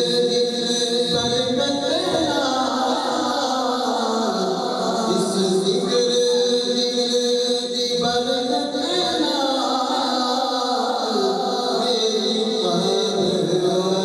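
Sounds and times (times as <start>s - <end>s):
person chanting devotional verse: 0.0s - 14.0s.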